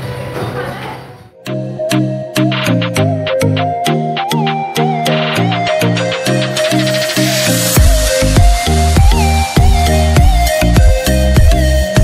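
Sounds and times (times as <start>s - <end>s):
electronic dance music: 1.4s - 12.0s.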